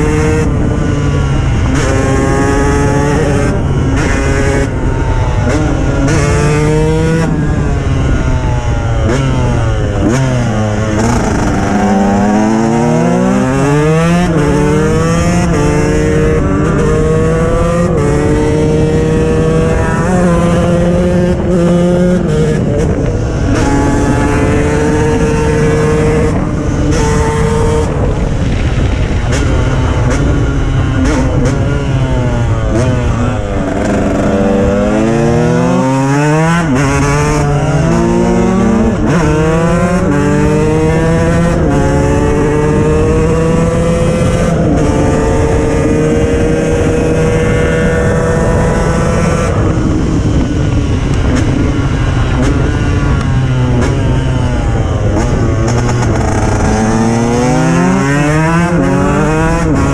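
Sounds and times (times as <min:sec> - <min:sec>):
two-stroke motorcycle engine revving: 0:00.0 - 0:59.9
wind rumble on microphone: 0:00.0 - 0:59.9.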